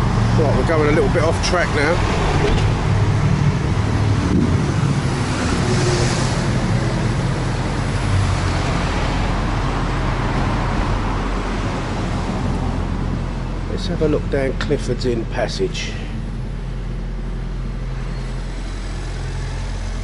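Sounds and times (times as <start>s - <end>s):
bus passing: 0.0s - 20.0s
road traffic rumble: 0.0s - 20.0s.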